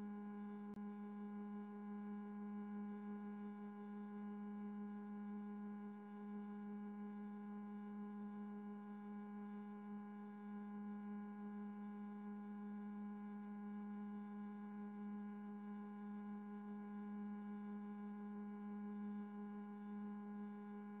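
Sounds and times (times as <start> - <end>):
faint electronic hum: 0.0 - 21.0.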